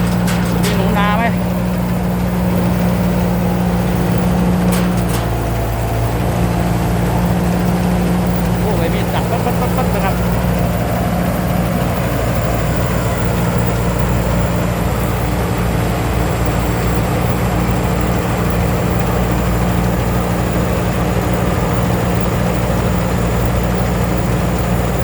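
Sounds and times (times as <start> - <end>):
combine harvester engine drone: 0.0 - 25.0
steady high whine: 0.0 - 25.0.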